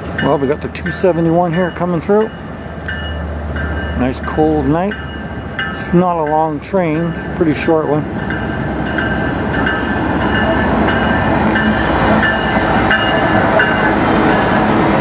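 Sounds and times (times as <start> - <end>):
diesel locomotive engine: 0.0 - 15.0
train wheels on rails: 0.0 - 15.0.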